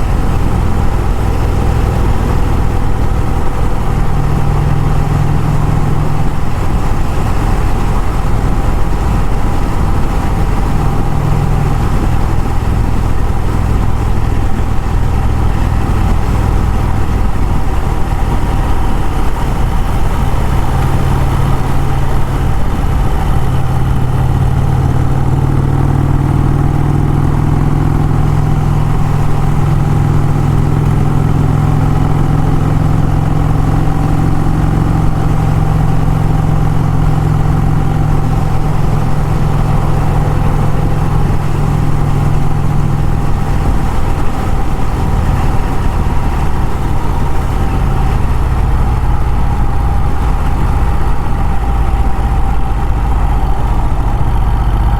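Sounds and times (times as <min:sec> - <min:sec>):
motorcycle engine running: 0:00.0 - 0:54.9
road and wind noise: 0:00.0 - 0:54.9.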